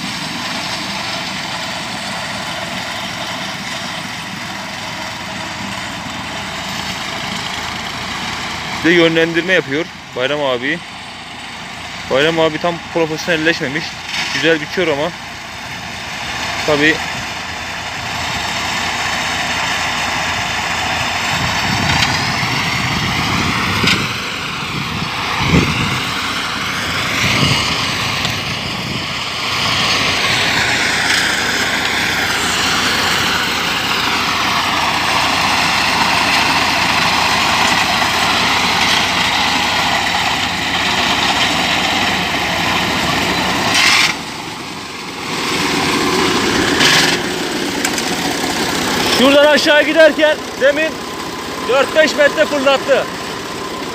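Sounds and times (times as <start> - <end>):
lawn mower engines running: 0.0 - 53.9.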